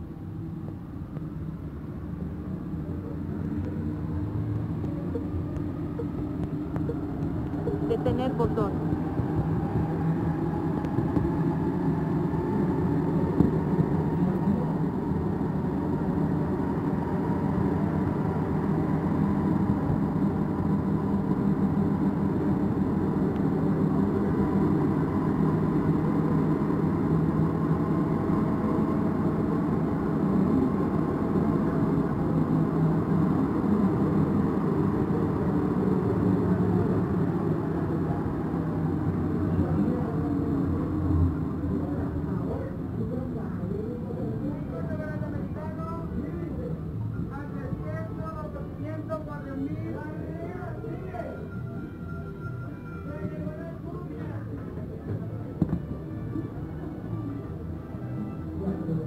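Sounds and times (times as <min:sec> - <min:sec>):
faint motor whine: 0:00.0 - 0:59.0
train running rumble: 0:00.0 - 0:59.0.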